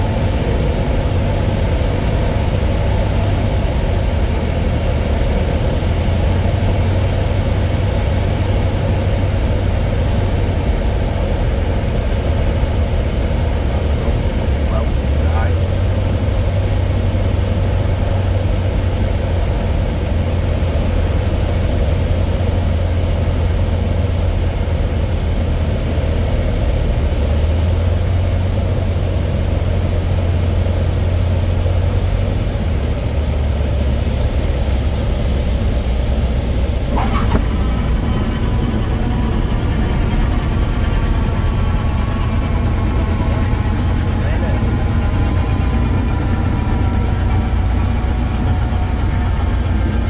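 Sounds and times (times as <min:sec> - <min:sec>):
propeller plane engine droning: 0:00.0 - 0:50.0.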